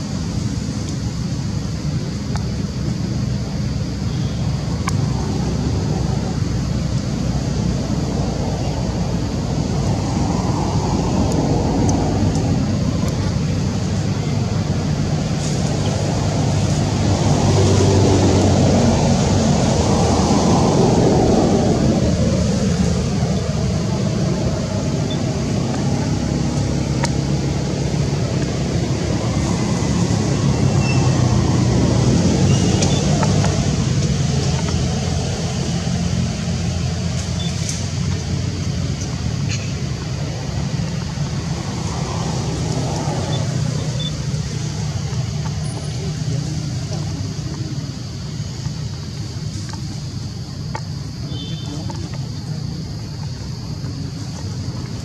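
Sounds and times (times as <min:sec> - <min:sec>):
motor vehicles rumbling: 0:00.0 - 0:55.0.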